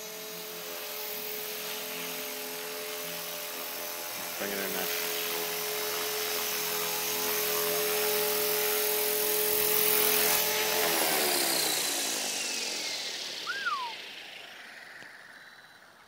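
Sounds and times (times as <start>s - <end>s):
rc helicopter rotors whining: 0.0s - 16.0s.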